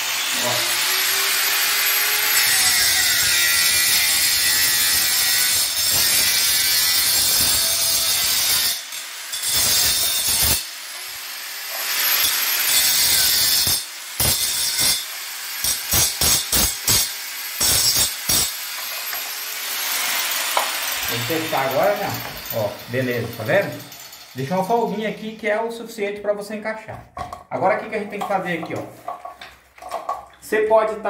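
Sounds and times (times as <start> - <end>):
angle grinder cutting plastic pipe: 0.0 - 25.7.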